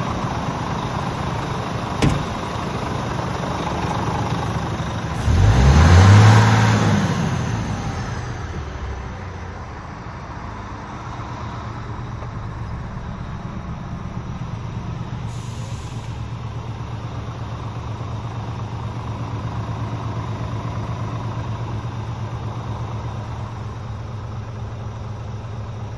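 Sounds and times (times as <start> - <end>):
diesel engine revving and idling: 0.0 - 25.9.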